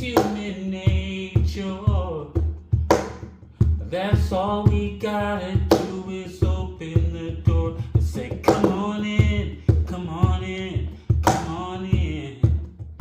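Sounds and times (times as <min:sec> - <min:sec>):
man singing: 0:00.0 - 0:02.7, 0:03.7 - 0:13.0
sharp beat hits: 0:02.4 - 0:13.0.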